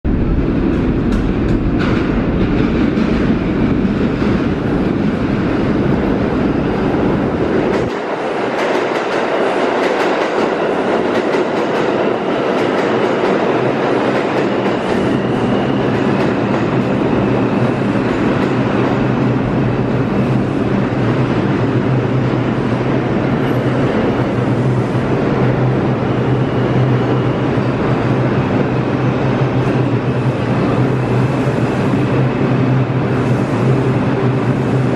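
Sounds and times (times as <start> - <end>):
train humming with high whine: 0.0 - 34.9
train wheels clattering over rails: 0.2 - 34.9.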